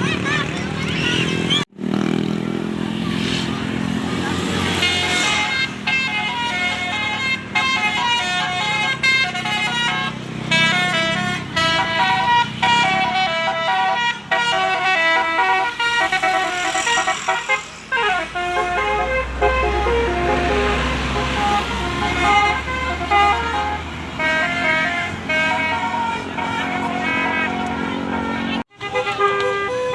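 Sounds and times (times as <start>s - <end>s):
multi-tone bus horn tune: 4.4s - 29.9s.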